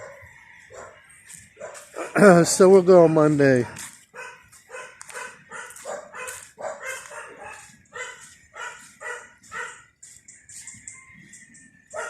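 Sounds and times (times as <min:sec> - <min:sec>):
dogs barking: 0:00.0 - 0:10.2.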